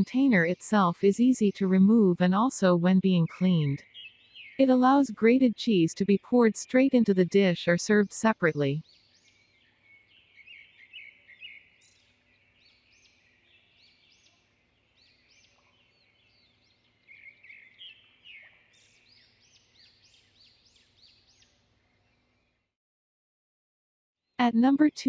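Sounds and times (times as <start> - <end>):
faint birds chirping: 0.0 - 22.7.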